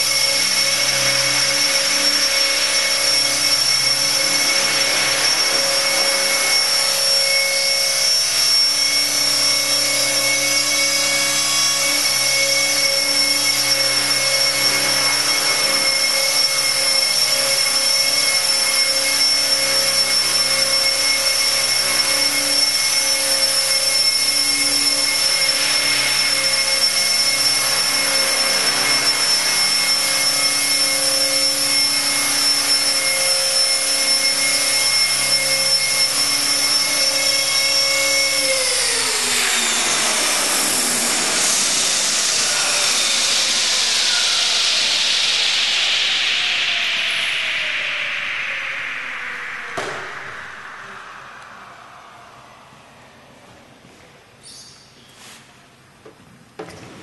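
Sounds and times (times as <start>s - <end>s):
helicopter rotor noise: 0.0s - 52.8s
rc helicopter motor whine: 0.0s - 53.1s.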